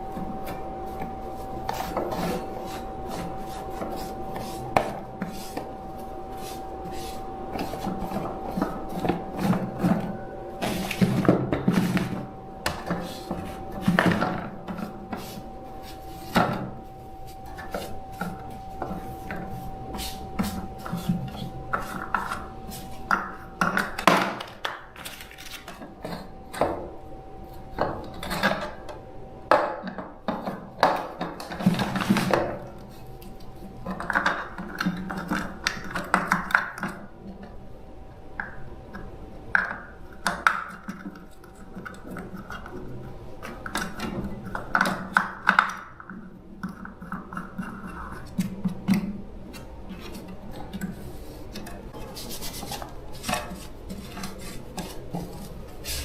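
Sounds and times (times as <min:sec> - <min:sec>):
faint steady whine: 0:00.0 - 0:56.0.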